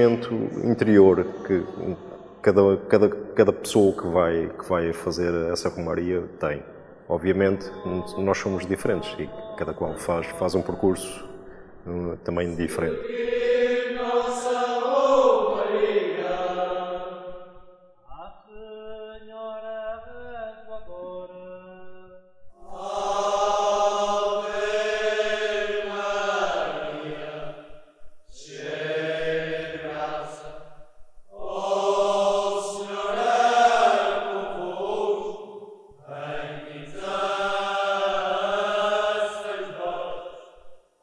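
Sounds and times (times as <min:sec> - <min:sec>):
people chanting in unison: 0:00.0 - 0:40.8.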